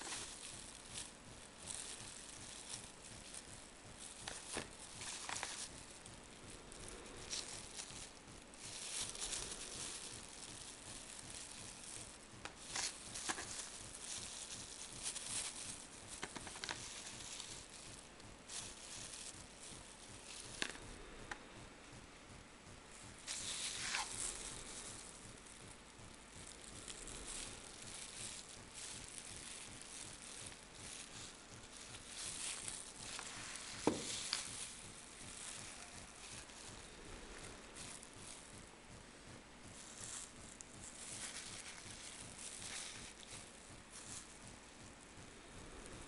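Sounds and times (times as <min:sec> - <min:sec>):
rustling and crinkling: 0:00.0 - 0:46.0.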